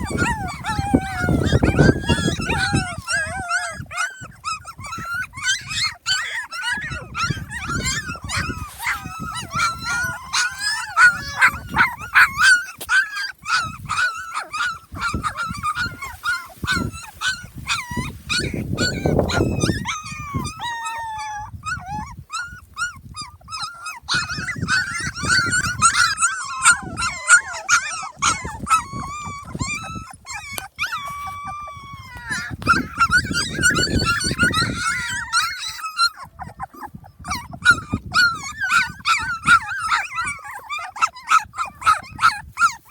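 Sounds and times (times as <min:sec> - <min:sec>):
puppies whimpering and squealing: 0:00.0 - 0:42.9.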